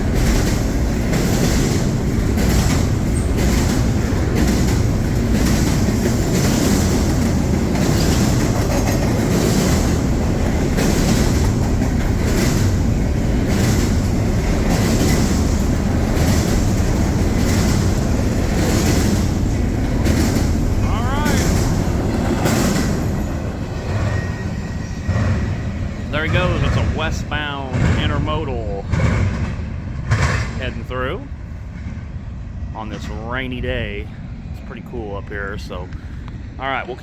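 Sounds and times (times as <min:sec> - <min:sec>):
wheels clicking over rail joints: 0:00.0 - 0:30.7
freight train wheels rumbling on rail: 0:00.0 - 0:37.0.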